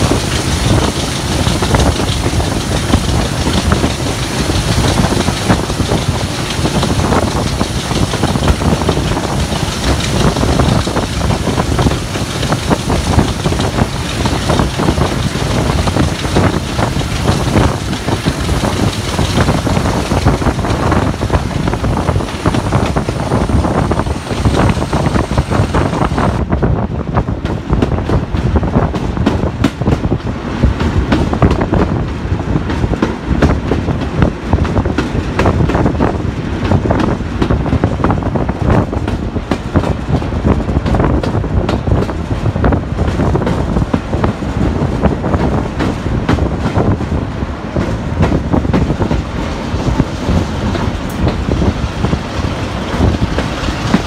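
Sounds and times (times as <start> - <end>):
diesel locomotive engine: 0.0 - 54.0
train wheels on rails: 0.0 - 54.0
wind buffeting microphone: 0.0 - 54.0.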